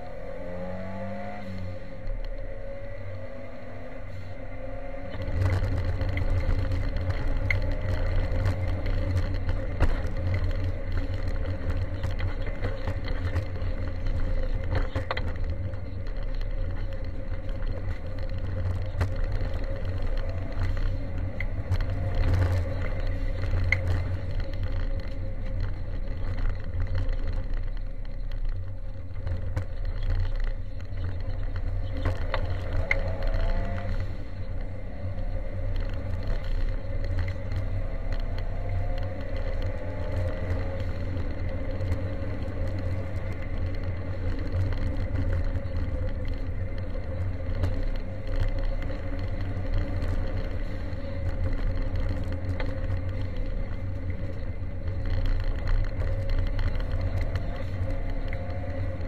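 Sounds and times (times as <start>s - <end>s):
rally car engine running hard: 0.0s - 59.0s
road rumble: 0.0s - 59.0s
stones rattling on underbody: 4.5s - 59.0s.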